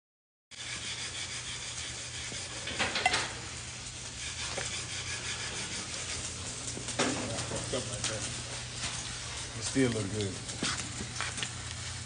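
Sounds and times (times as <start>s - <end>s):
welding arc crackling: 0.5s - 12.0s.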